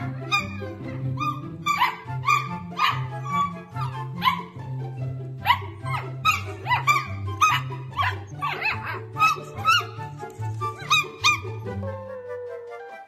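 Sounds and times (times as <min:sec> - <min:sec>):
puppies yipping and barking: 0:00.0 - 0:04.8, 0:05.4 - 0:11.8.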